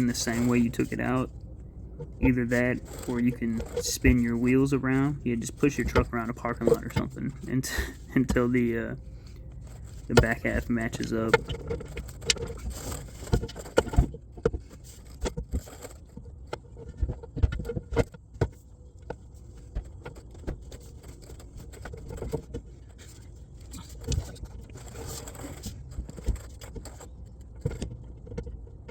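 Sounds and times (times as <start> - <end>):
low steady rumble: 0.0 - 28.9.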